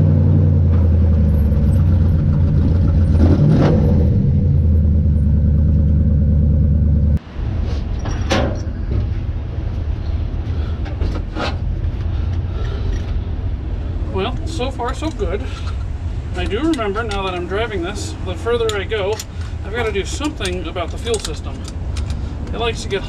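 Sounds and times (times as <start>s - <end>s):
car engine and road drone: 0.0s - 23.0s.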